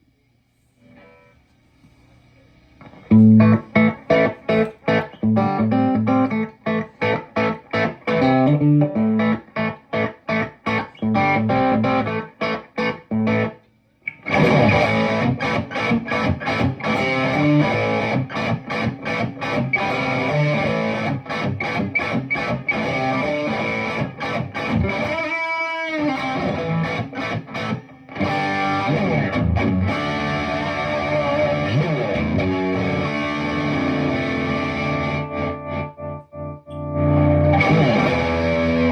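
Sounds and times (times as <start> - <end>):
overdriven electric guitar: 2.8 - 38.9.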